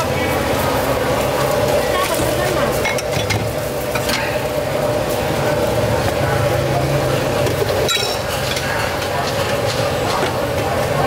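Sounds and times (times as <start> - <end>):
boiling broth pot hum: 0.0 - 11.0.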